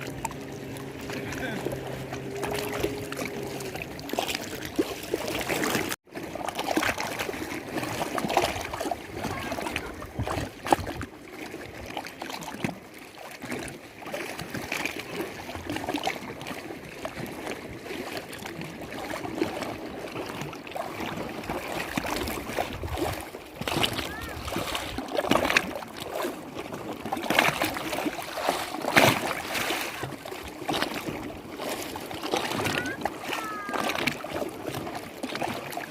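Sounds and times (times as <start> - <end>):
lake water lapping: 0.0 - 35.9
small splashes and gurgles: 0.0 - 35.9.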